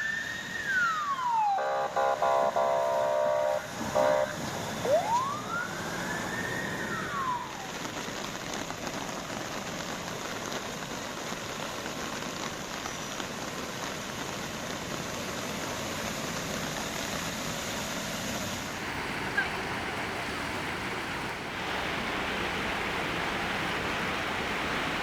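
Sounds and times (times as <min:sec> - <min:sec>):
heavy rain hissing: 0:03.1 - 0:25.0.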